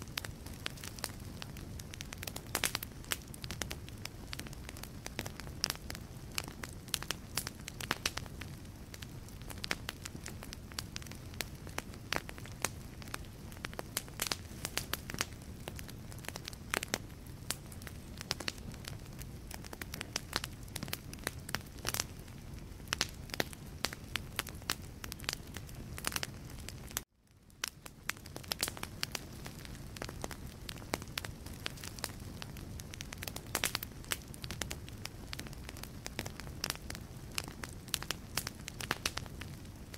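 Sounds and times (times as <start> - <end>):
logs crackling in fireplace: 0.0 - 39.9
low rumble of flames: 0.0 - 39.9.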